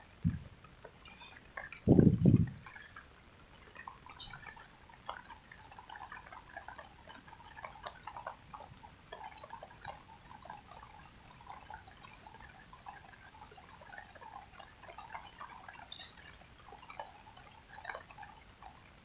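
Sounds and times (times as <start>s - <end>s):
rainwater dripping: 0.0s - 19.0s.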